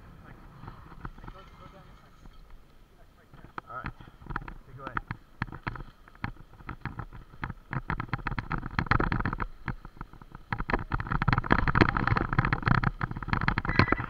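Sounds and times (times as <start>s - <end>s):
bicycle rattling over dirt trail: 0.0s - 14.0s.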